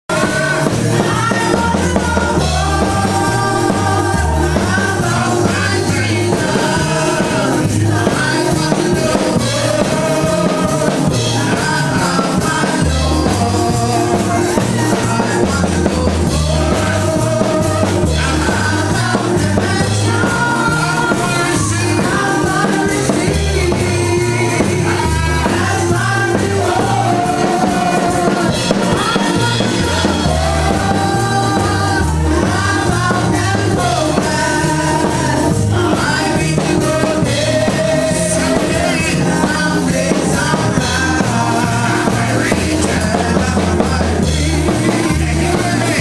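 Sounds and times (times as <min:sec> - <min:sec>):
band with drums and bass: 0:00.0 - 0:46.0
person singing through a microphone: 0:00.0 - 0:46.0.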